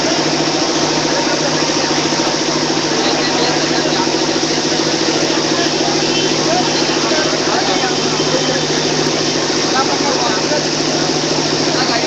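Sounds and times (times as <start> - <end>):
engine idling: 0.0 - 12.0
loud constant din: 0.0 - 12.0.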